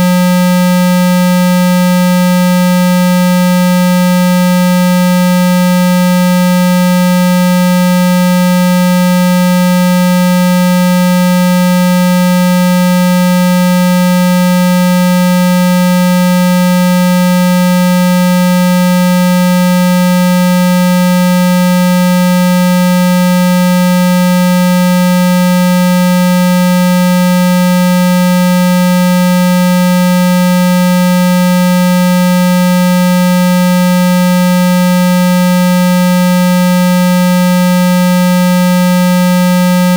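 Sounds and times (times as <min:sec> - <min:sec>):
low buzzing tone from phone speaker: 0:00.0 - 0:39.9.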